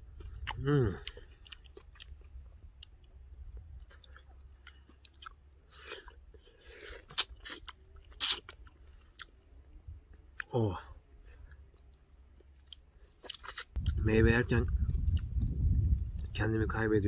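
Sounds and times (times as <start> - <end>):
chewing and wet mouth noises: 0.0 - 14.0, 14.6 - 16.4.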